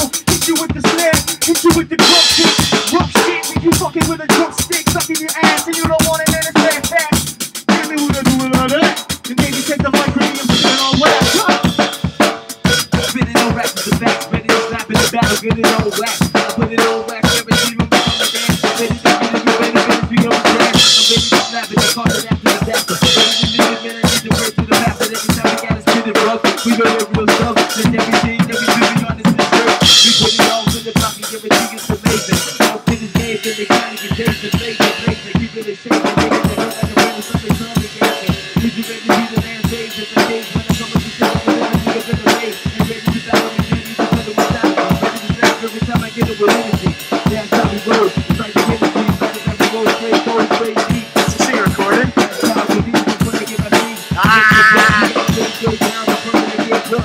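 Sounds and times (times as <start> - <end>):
fast drum kit beat: 0.0 - 57.0.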